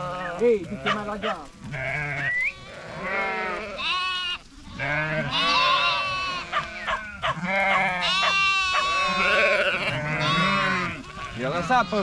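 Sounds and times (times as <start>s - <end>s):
sheep and lambs bleating: 0.0s - 12.0s.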